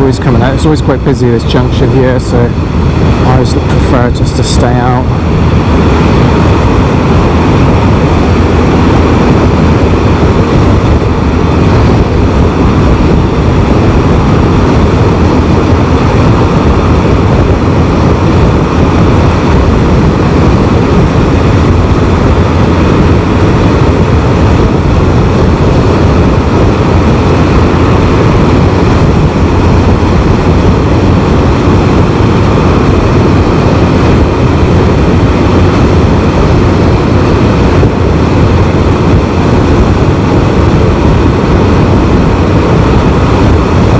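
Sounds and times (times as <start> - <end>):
motorcycle riding: 0.0 - 43.9
wind rushing: 0.0 - 43.9.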